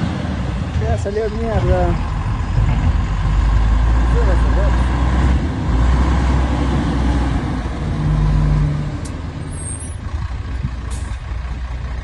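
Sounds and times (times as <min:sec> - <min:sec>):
truck diesel engine driving past: 0:00.0 - 0:12.0.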